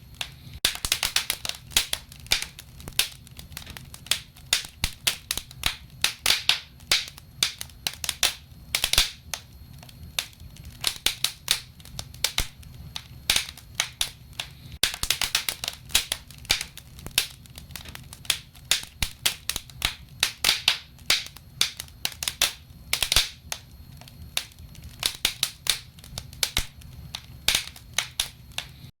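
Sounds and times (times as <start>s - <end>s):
low rumble of flames: 0.0s - 28.9s
wood fire crackling: 0.0s - 28.9s.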